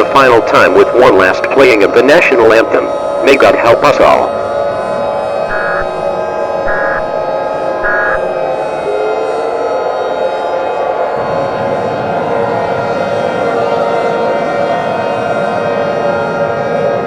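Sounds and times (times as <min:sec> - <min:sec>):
loud siren-like wail: 0:00.0 - 0:17.0.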